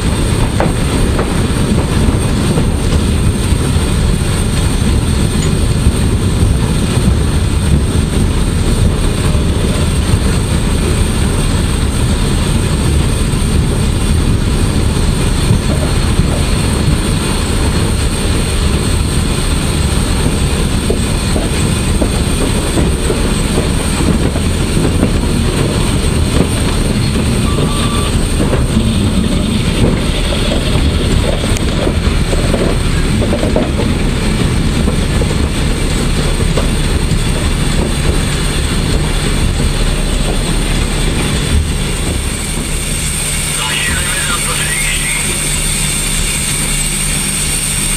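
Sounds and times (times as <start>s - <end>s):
wheels clattering over rail joints: 0.0s - 43.4s
steam locomotive running: 0.0s - 47.9s.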